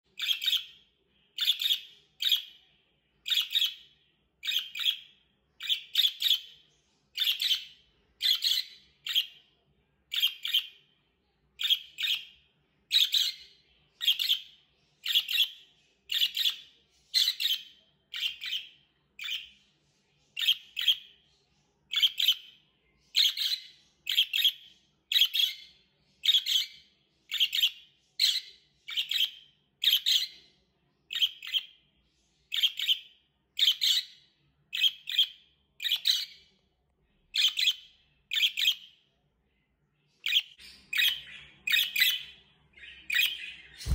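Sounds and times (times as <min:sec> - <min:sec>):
budgerigar chirping: 0:00.2 - 0:00.8, 0:01.4 - 0:02.6, 0:03.2 - 0:06.6, 0:07.2 - 0:09.4, 0:10.1 - 0:10.8, 0:11.6 - 0:19.5, 0:20.4 - 0:21.2, 0:21.9 - 0:30.4, 0:31.1 - 0:31.8, 0:32.5 - 0:36.5, 0:37.3 - 0:38.9, 0:40.2 - 0:43.9.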